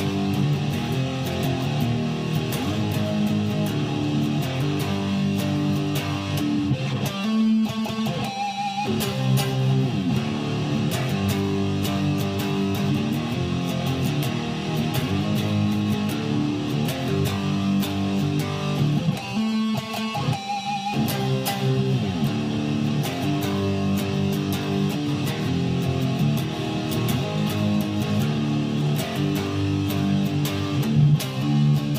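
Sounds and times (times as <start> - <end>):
strummed guitar chords: 0.0 - 31.9.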